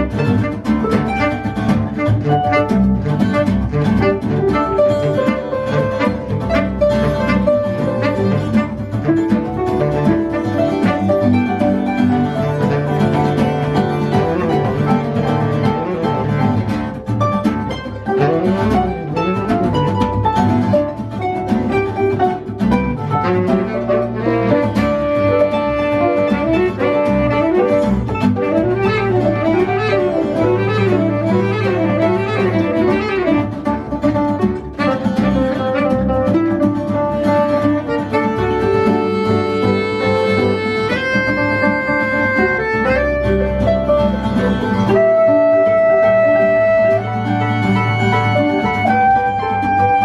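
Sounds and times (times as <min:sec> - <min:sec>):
acoustic guitar: 0:00.0 - 0:50.0
saxophone playing: 0:00.0 - 0:50.0.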